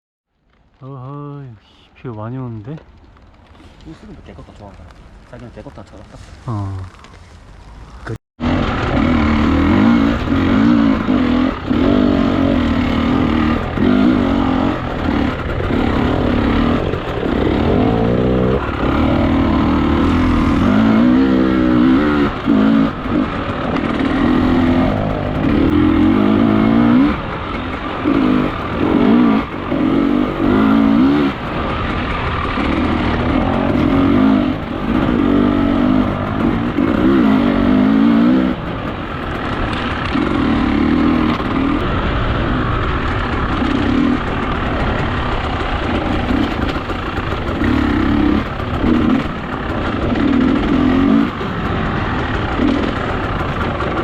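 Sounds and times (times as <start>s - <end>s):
dirt bike engine revving: 8.4s - 54.0s.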